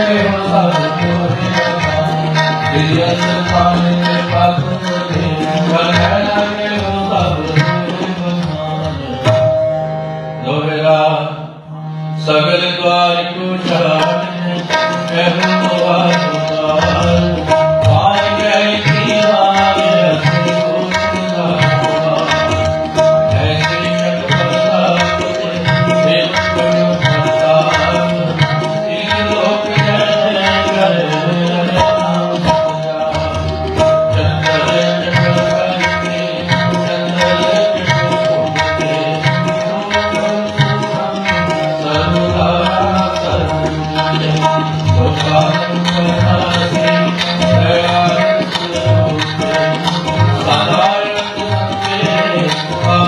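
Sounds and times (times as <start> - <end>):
harmonium: 0.0 - 53.0
tabla rhythm: 0.0 - 53.0.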